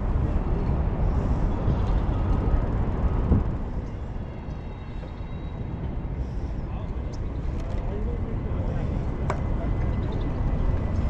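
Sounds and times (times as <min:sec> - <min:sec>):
city traffic: 0:00.0 - 0:11.0
wind rumble on microphone: 0:00.0 - 0:11.0.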